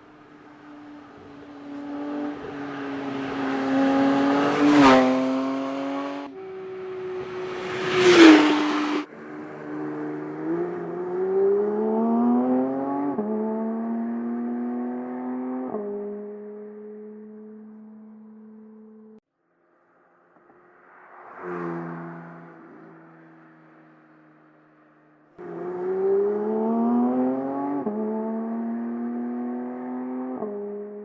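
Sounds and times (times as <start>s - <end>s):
sports car engine passing by: 0.1s - 18.9s, 19.8s - 31.0s.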